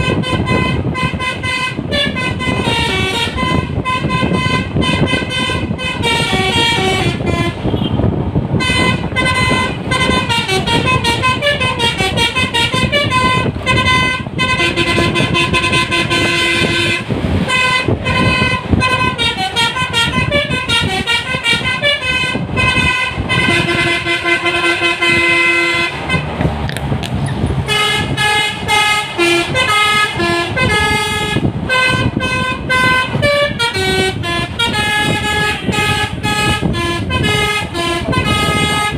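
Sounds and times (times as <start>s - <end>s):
multi-tone bus horn melody: 0.0s - 26.6s, 27.4s - 38.9s
bus engine and road rumble: 0.0s - 38.9s.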